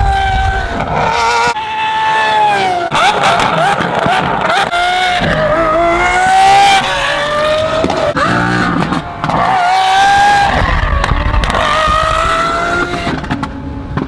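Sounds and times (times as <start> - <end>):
sports car accelerating through gears: 0.1 - 13.8.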